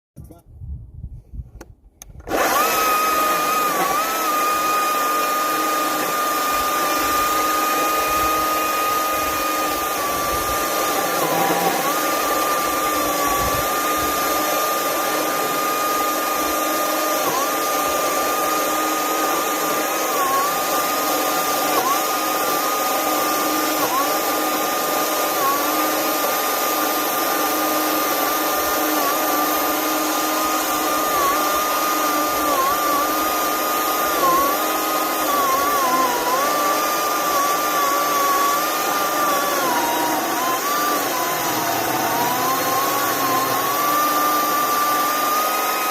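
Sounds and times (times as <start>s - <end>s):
battery chainsaw whining: 2.0s - 45.9s.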